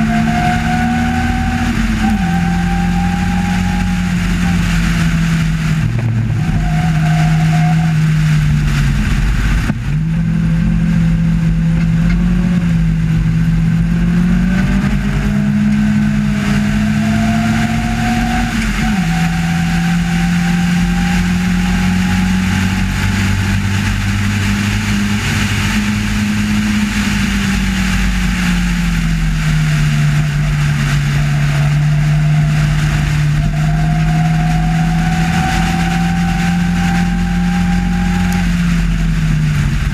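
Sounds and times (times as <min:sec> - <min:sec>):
racing car engine running hard: 0:00.0 - 0:39.9.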